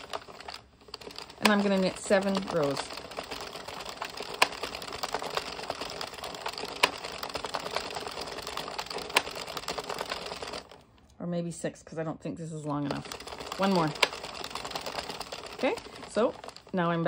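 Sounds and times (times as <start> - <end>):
knitting machine needles clattering: 0.0 - 11.1, 12.5 - 17.0.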